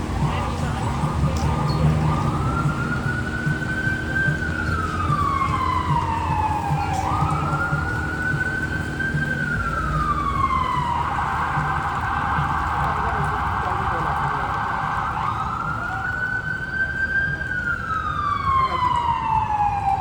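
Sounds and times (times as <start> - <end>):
emergency siren wailing: 0.0 - 20.0
low traffic rumble: 0.0 - 20.0.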